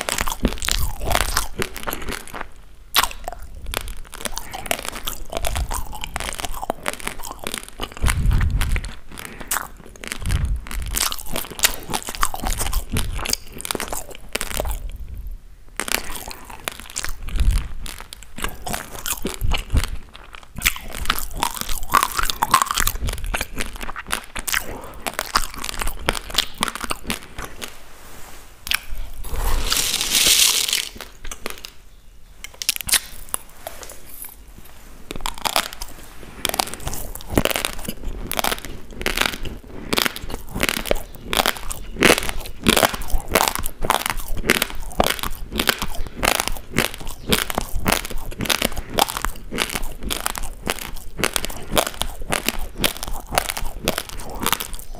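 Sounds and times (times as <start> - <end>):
rice grains crunched and chewed: 0.0 - 31.8, 32.5 - 54.9.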